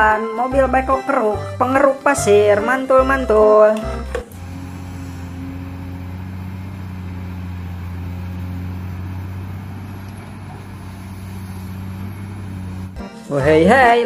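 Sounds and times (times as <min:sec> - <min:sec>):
excavator diesel engine running: 0:01.4 - 0:13.1.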